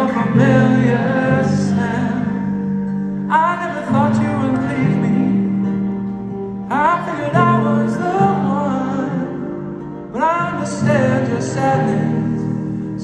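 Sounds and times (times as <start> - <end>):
man singing: 0.0 - 6.0, 6.7 - 13.0
electric guitar: 0.0 - 13.0
strummed acoustic guitar: 0.0 - 13.0.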